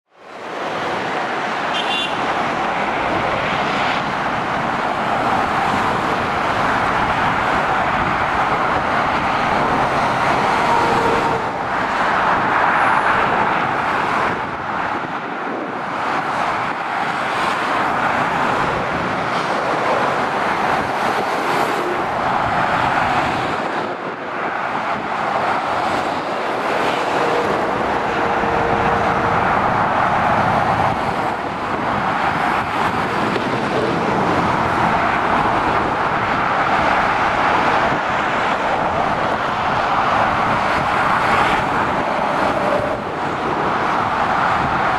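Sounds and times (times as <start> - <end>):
motorway traffic passing: 0.1 - 44.9.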